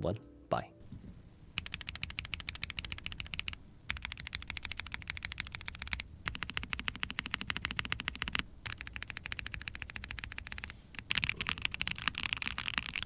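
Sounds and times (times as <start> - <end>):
mechanical keyboard typing: 1.6 - 13.0.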